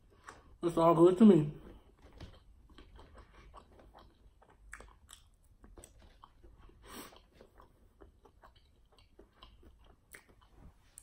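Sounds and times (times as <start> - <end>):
person chewing crunchy food: 1.7 - 11.0.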